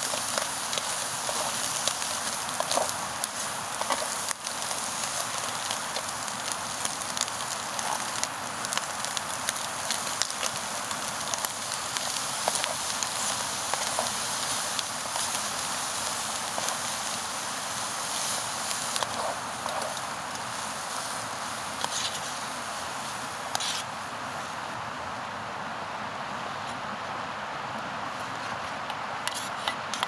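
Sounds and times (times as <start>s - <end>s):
food sizzling in a pan: 0.0s - 24.5s.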